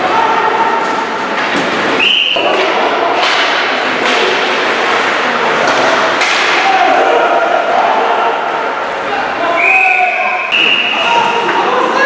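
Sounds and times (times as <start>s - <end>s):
crowd background noise: 0.0s - 12.0s.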